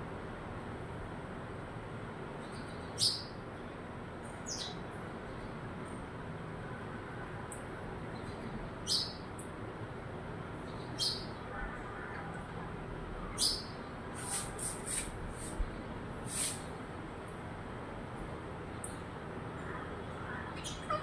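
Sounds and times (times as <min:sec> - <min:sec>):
steady background hiss: 0:00.0 - 0:20.9.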